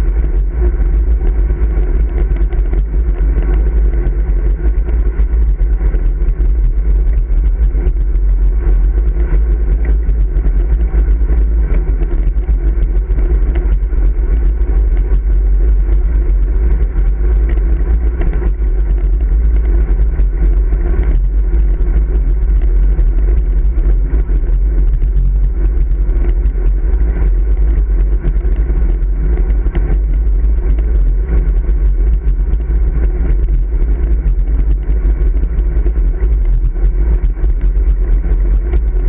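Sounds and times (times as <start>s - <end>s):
tyre and road noise: 0.0s - 39.0s
wind rush on microphone: 0.0s - 39.0s.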